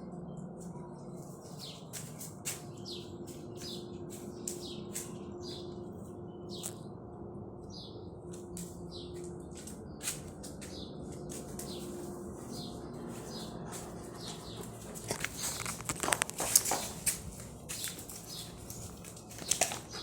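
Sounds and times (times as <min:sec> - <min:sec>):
steady low hum: 0:00.0 - 0:20.0
small birds chirping: 0:00.1 - 0:07.0, 0:07.6 - 0:20.0.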